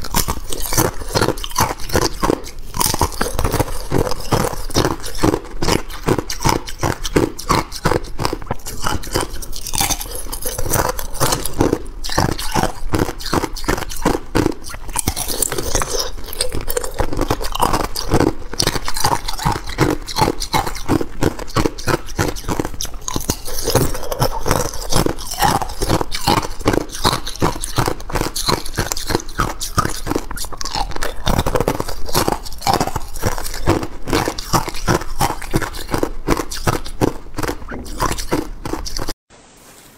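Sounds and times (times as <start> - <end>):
ice crunching being chewed: 0.0 - 39.2.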